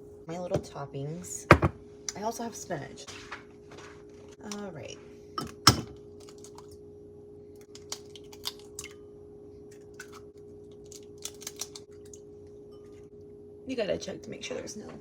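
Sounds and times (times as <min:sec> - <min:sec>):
low appliance hum: 0:00.0 - 0:15.0.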